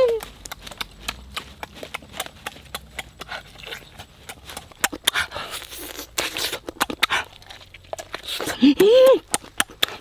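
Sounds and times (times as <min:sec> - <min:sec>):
meat tearing with teeth: 0:00.0 - 0:10.0
wet chewing and smacking: 0:00.0 - 0:10.0.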